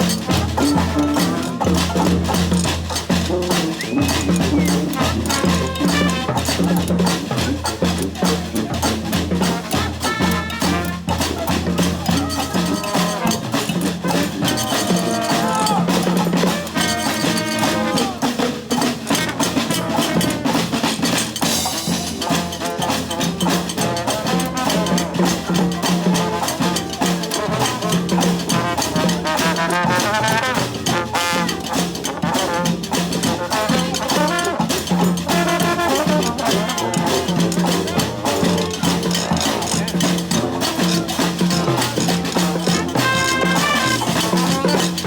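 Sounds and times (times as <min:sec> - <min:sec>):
drum beat: 0:00.0 - 0:45.0
horns playing melody: 0:00.0 - 0:45.0.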